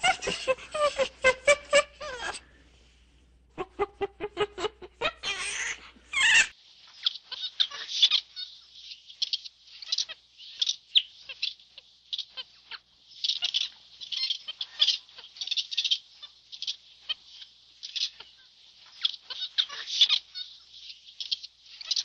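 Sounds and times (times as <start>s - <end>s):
birds chirping: 3.6s - 22.0s.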